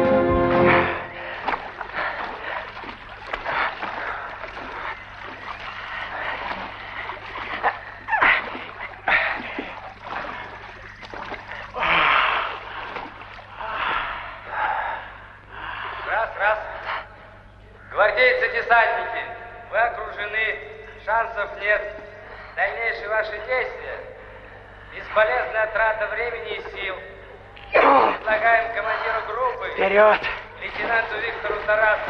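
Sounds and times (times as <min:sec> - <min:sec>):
people wading through water: 0:00.0 - 0:18.0, 0:18.9 - 0:32.0.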